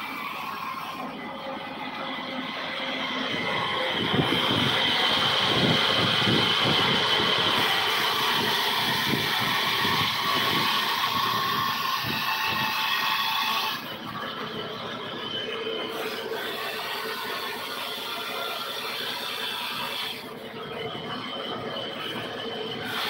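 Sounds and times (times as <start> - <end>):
band saw cutting log: 0.0 - 23.0.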